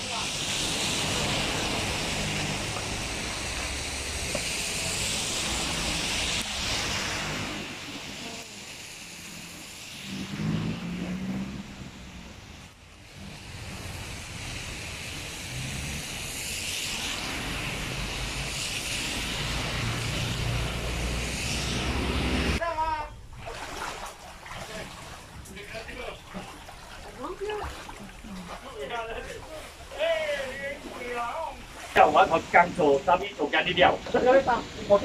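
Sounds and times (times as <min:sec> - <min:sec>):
rain hissing on flooded street: 0:00.0 - 0:22.6, 0:23.2 - 0:35.0.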